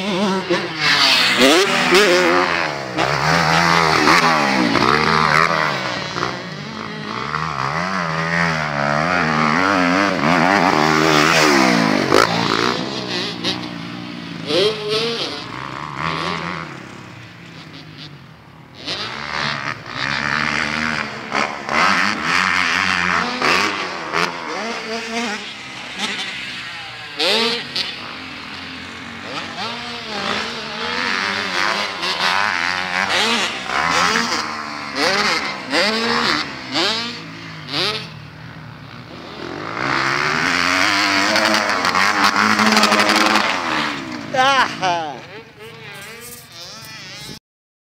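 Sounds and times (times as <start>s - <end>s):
dirt bike engines revving: 0.0s - 47.4s.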